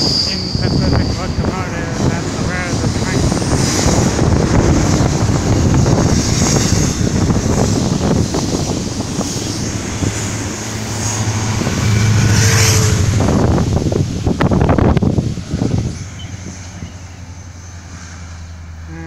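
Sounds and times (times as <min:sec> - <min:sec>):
wind on microphone: 0:00.0 - 0:18.2
freight train rumbling: 0:00.0 - 0:19.0.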